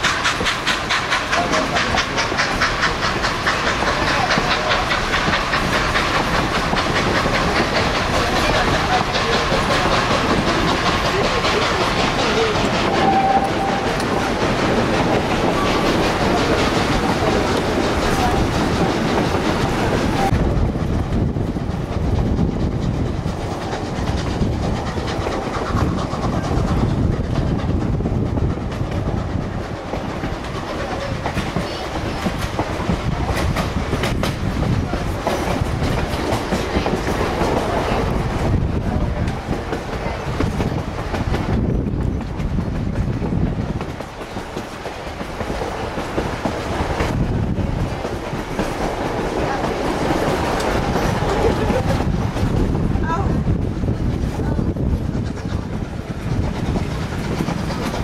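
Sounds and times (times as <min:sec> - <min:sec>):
train rumble: 0:00.0 - 0:58.0
wheels clacking over rail joints: 0:00.0 - 0:58.0.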